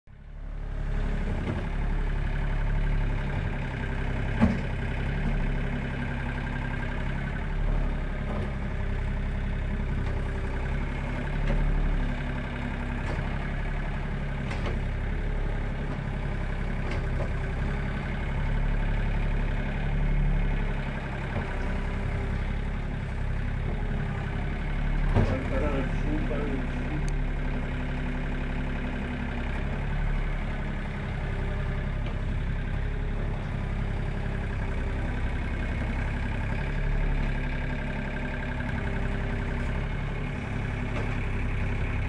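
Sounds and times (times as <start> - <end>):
diesel tractor engine running: 0.1 - 42.0.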